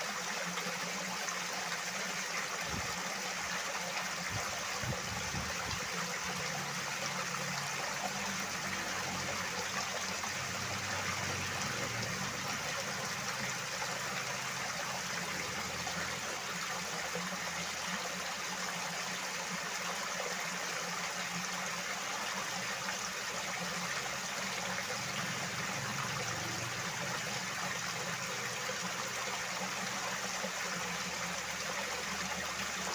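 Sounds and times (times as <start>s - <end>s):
water flowing: 0.0s - 32.9s.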